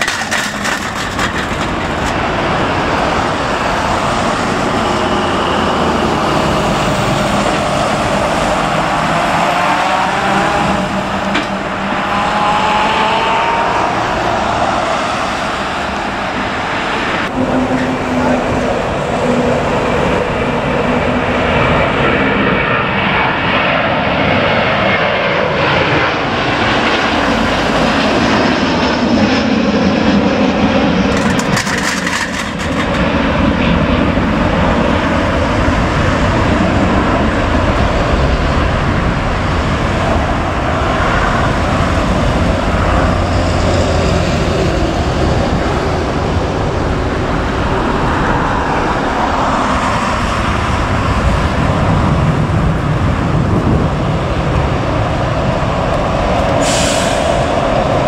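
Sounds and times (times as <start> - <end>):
jet engines roaring at take-off: 0.0 - 58.0.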